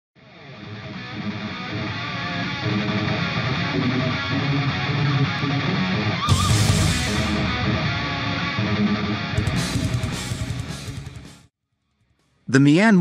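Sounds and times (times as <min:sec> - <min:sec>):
rock music with electric guitar: 0:00.2 - 0:11.5.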